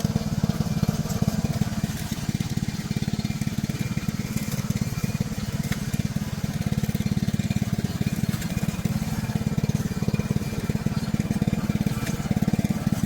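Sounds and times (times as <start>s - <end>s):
mower engine running: 0.0s - 13.0s.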